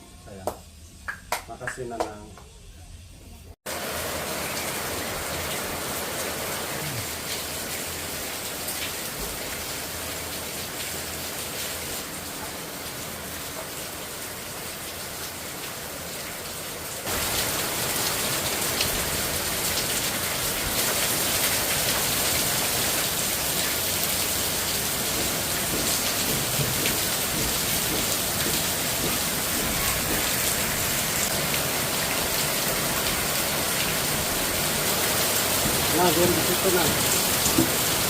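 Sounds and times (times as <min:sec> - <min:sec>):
steady rain falling: 0:03.7 - 0:38.0.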